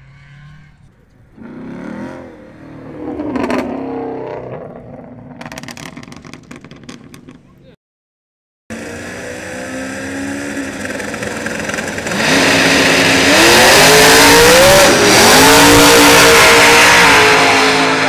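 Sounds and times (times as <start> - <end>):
drag car engines at full throttle: 0.0 - 7.6, 8.7 - 18.0.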